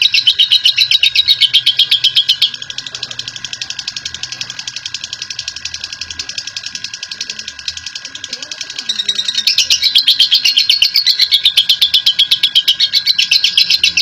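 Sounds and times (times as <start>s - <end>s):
bird chattering trill: 0.0s - 14.0s.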